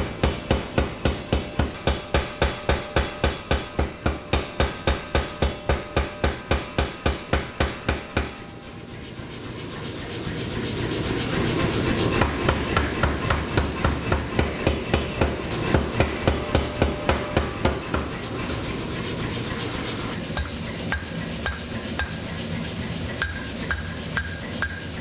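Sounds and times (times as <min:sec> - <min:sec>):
hammer striking steel: 0:00.0 - 0:09.0, 0:12.2 - 0:25.0
steady background noise: 0:00.0 - 0:25.0.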